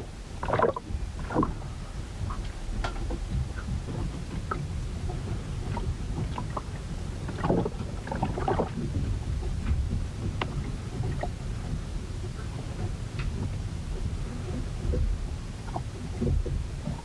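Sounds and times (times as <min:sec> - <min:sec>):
low rumble of wind and water: 0:00.0 - 0:17.0.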